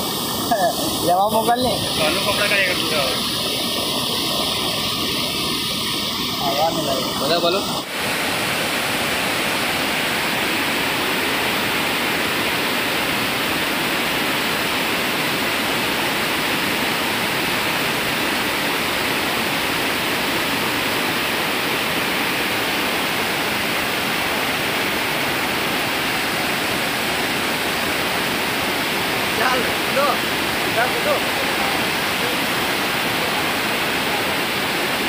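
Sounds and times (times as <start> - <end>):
water pouring down a weir: 0.0 - 35.0.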